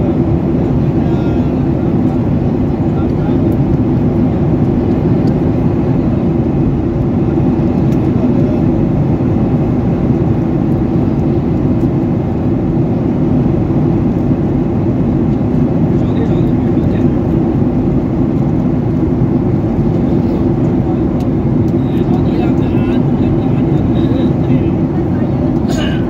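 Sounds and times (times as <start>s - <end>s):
airliner cabin engine drone: 0.0s - 26.0s.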